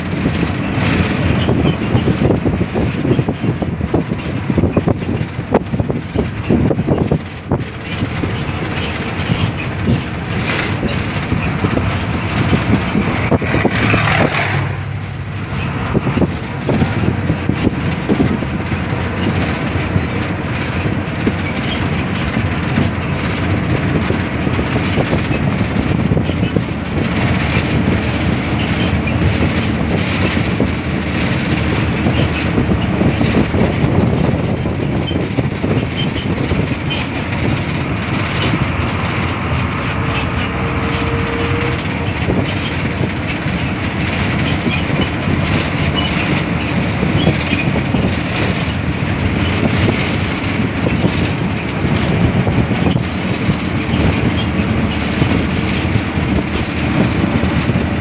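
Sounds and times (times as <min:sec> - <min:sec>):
vehicle road noise from inside: 0:00.0 - 0:58.0.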